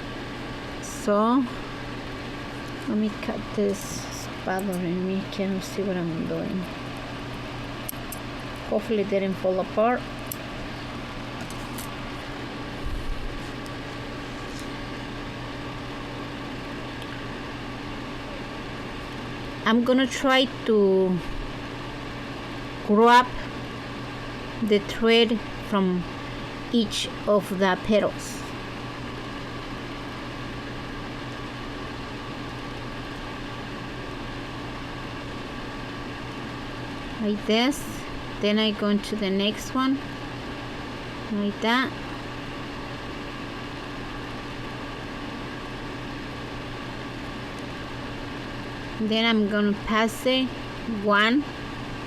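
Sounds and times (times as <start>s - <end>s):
steady machine hum: 0.0s - 52.0s.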